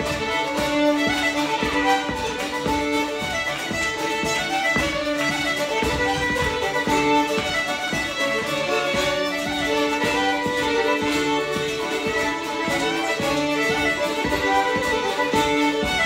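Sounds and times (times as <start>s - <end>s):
fiddles playing lively tune: 0.0s - 16.0s
strummed string accompaniment: 0.0s - 16.0s.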